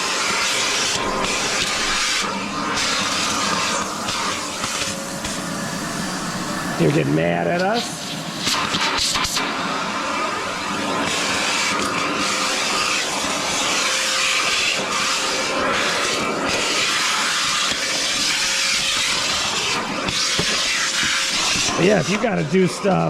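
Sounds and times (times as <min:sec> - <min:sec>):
faint motor whine: 0:00.0 - 0:23.0
vacuum air rushing through hose: 0:00.0 - 0:23.0.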